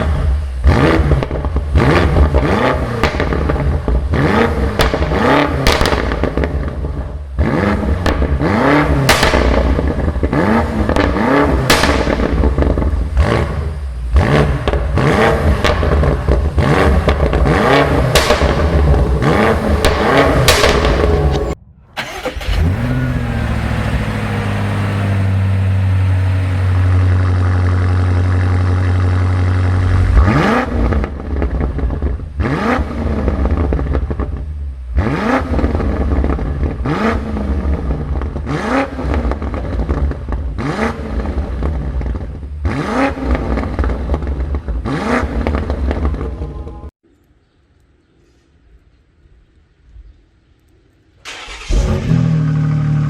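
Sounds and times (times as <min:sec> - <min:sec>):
car engine starting and revving: 0:00.0 - 0:46.9, 0:51.2 - 0:53.0
engine throttle blips: 0:00.0 - 0:46.9, 0:51.2 - 0:53.0.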